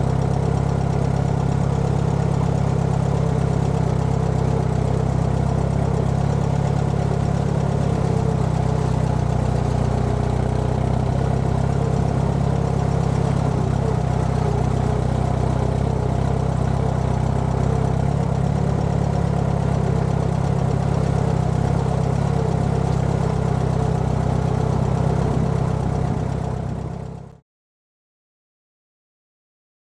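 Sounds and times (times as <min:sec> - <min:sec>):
tractor engine running: 0:00.0 - 0:27.4.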